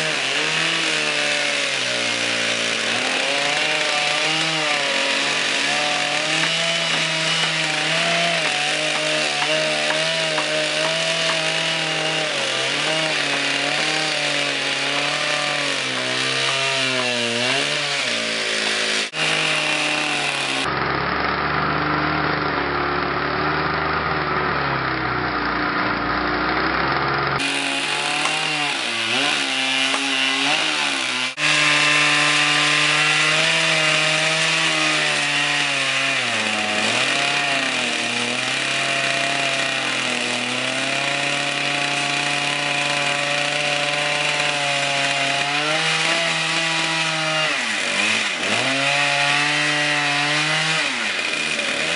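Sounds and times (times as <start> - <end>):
chainsaws cutting tree trunk: 0.0 - 51.9.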